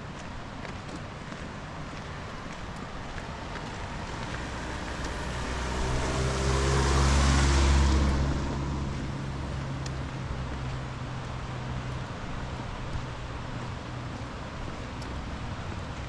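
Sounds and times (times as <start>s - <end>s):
vehicle passing by: 2.9s - 16.0s.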